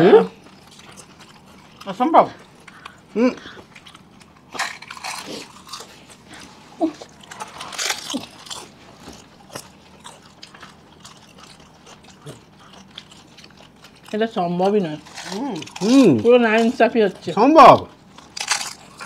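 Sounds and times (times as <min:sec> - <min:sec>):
wet chewing: 0:00.3 - 0:19.0
crunching crisp shells: 0:00.4 - 0:19.0.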